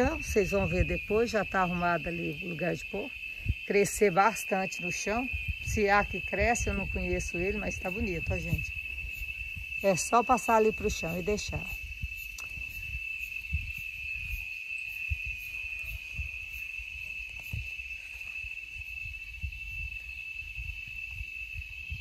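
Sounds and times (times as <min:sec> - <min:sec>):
cicadas droning: 0:00.0 - 0:22.0.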